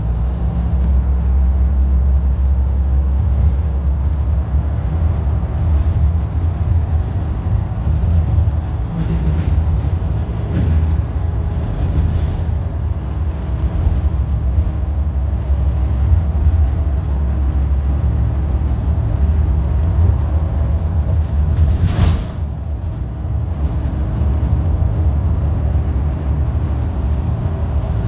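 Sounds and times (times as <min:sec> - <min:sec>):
car road noise: 0:00.0 - 0:28.0
freight train rolling: 0:00.0 - 0:28.0.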